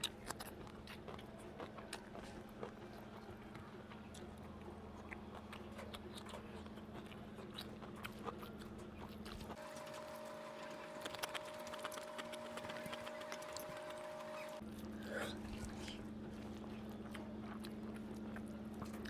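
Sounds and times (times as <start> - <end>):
chewing: 0.0 - 19.0
steady background hum: 0.0 - 19.0.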